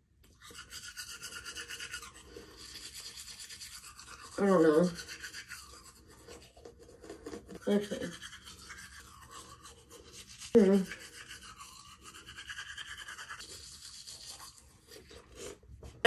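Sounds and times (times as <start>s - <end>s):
toothbrush scrubbing teeth: 0.2s - 16.0s.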